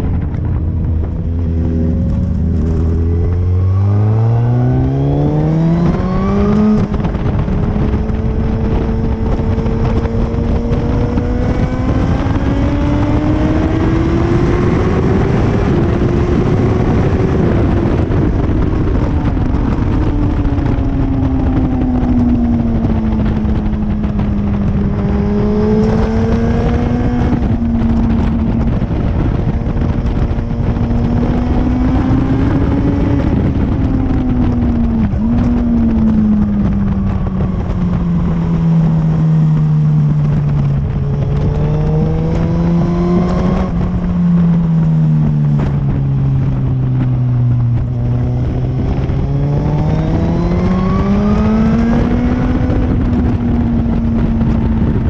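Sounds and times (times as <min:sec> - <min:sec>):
motorcycle engine at speed: 0:00.0 - 0:55.0
wind rush on microphone: 0:00.0 - 0:55.0.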